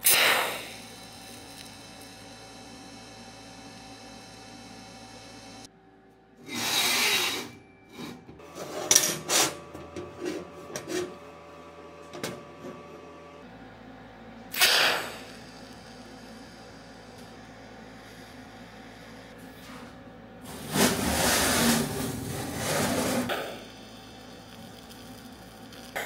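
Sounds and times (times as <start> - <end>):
welder humming: 0.0 - 26.0.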